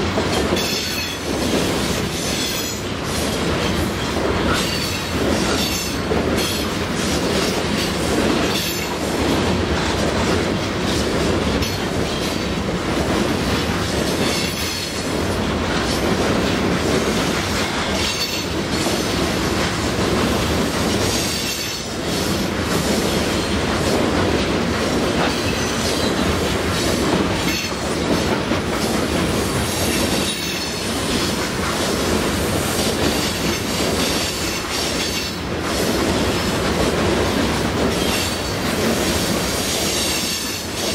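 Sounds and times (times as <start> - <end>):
rhythmic rail clicking: 0.0 - 40.9
train wheels rumbling on rails: 0.0 - 40.9.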